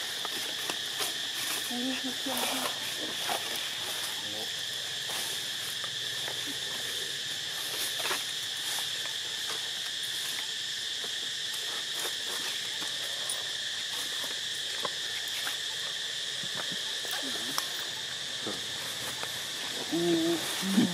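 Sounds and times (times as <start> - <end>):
high-pitched insect chorus: 0.0 - 20.9.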